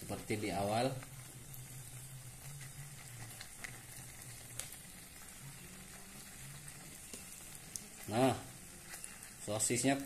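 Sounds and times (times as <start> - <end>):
batter sizzling in hot oil: 0.0 - 10.0.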